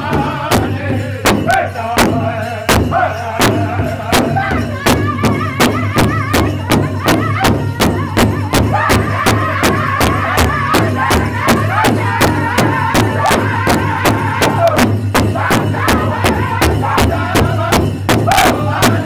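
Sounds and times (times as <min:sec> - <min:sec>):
bass drum steady beat: 0:00.0 - 0:19.0
group singing in unison: 0:00.0 - 0:19.0.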